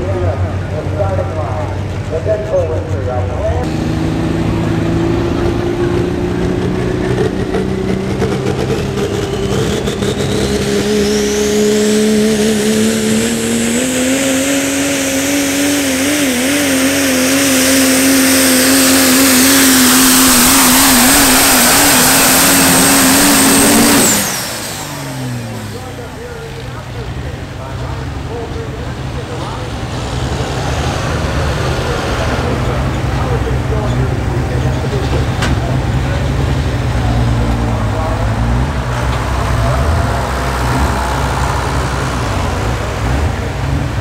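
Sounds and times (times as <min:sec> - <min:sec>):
diesel engine at full load: 0:00.0 - 0:44.0
turbocharger whine: 0:00.0 - 0:44.0.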